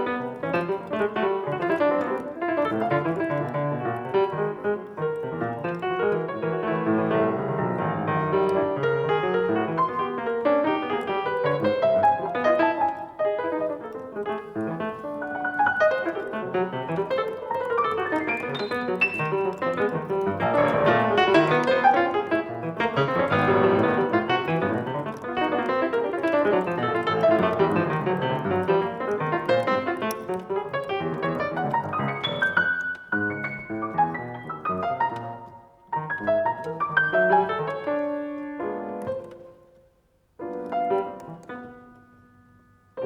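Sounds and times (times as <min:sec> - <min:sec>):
solo piano playing: 0:00.0 - 0:43.0.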